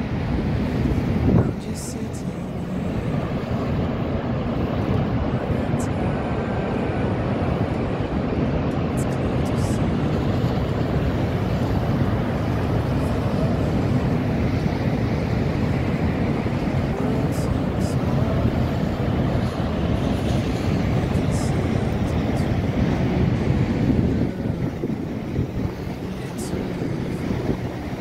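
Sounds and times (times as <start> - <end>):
loud rush of falling water: 0.0 - 28.0.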